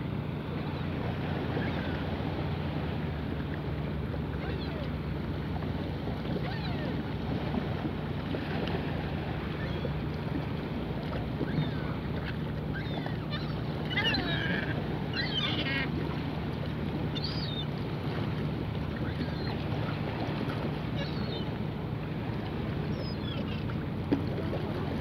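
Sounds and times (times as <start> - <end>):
wind and water wash: 0.0 - 25.0
gulls calling: 0.1 - 25.0.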